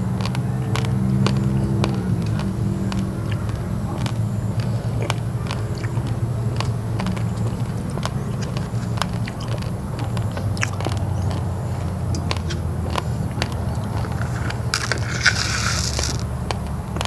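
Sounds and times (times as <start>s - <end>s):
rice grains crunching in teeth: 0.0s - 17.0s.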